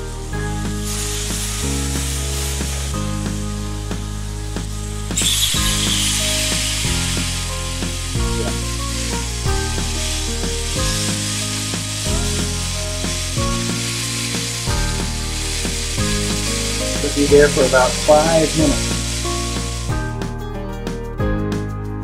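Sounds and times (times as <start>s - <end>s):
steak sizzling in a skillet: 0.0s - 20.5s.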